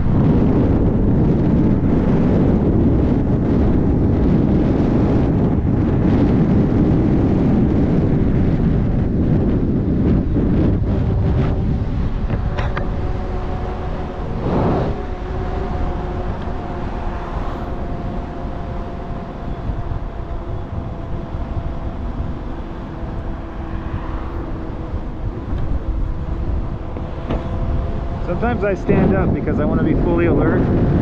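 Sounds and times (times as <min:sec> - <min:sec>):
electric motor whining: 0:00.0 - 0:31.0
wind rumble on microphone: 0:00.0 - 0:31.0.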